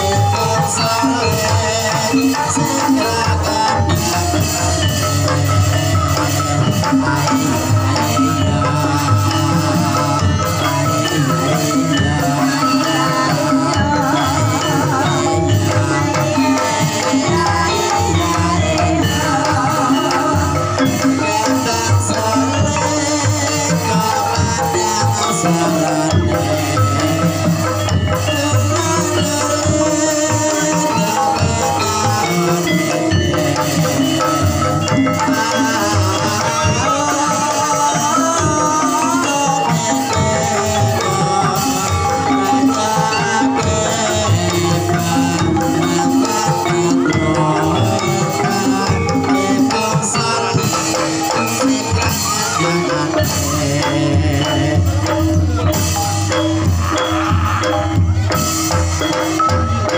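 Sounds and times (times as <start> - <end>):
gamelan music: 0.0 - 59.9
steady drumming: 0.0 - 59.9.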